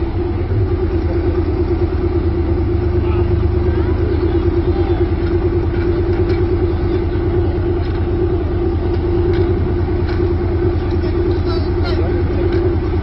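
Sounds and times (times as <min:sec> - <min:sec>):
tank engine idling: 0:00.0 - 0:13.0.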